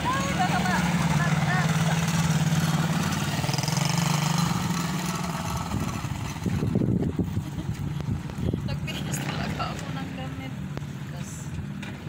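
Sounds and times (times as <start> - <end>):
quad bike engine humming: 0.0 - 12.0.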